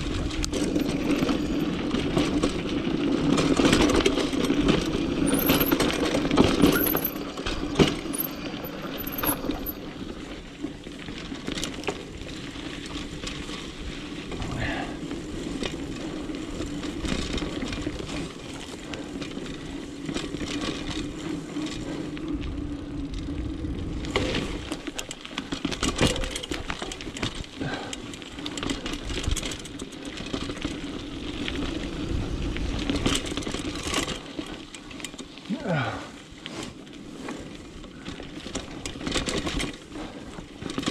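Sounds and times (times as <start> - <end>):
bike clicking and rattling: 0.0 - 40.9
bike tyres rolling on dirt: 0.0 - 40.9.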